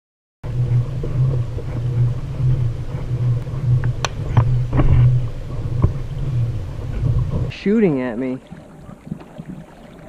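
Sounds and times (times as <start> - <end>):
steady low rumble: 0.4 - 10.0.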